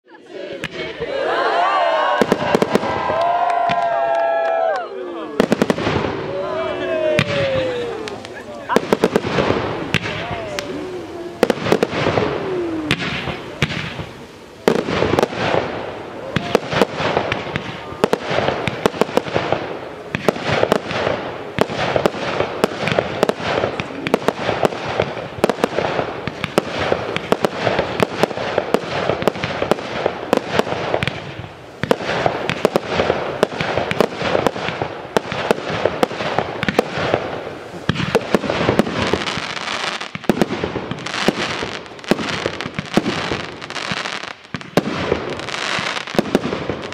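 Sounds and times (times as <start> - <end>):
fireworks launches bangs and crackles: 0.5 - 1.0, 2.0 - 46.9.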